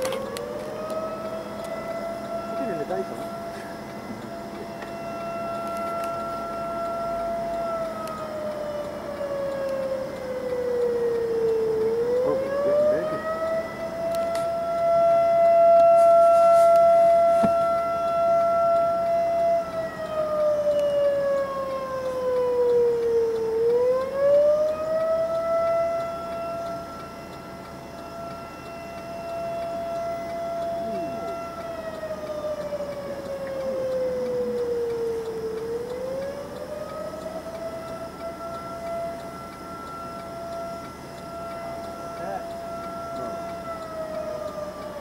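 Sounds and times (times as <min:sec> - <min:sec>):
warning siren: 0:00.0 - 0:45.0.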